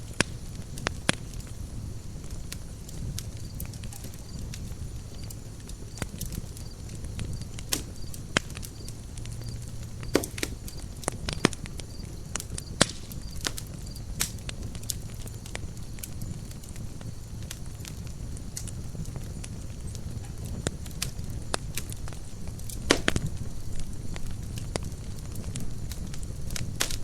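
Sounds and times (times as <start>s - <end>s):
burning wood crackling: 0.0s - 27.0s
campfire flame rumble: 0.0s - 27.0s.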